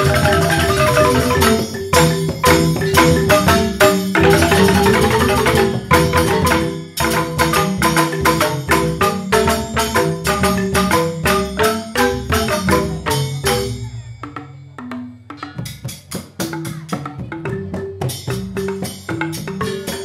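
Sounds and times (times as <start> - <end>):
bamboo xylophone ensemble playing: 0.0 - 20.0.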